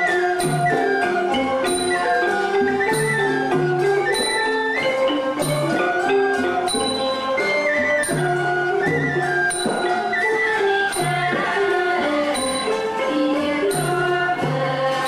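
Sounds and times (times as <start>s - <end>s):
folk dance music with xylophone: 0.0s - 15.0s.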